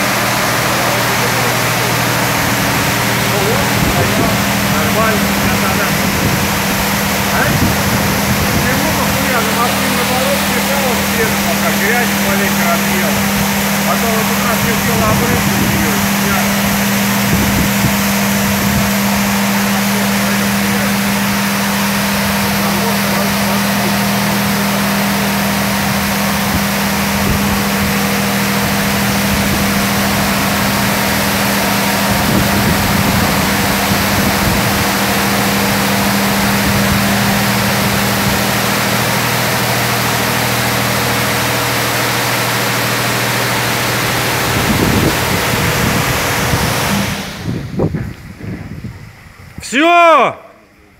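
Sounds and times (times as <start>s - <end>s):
water jets spraying car: 0.0s - 47.9s
machine hum: 0.0s - 50.9s.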